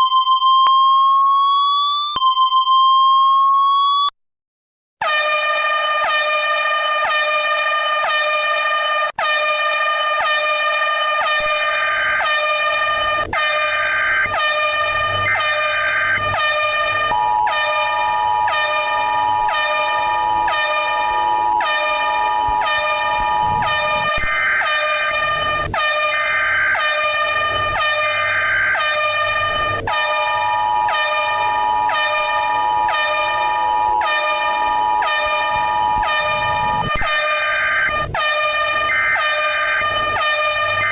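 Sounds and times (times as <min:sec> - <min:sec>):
pulsing harsh alarm tone: 0:05.0 - 0:40.9.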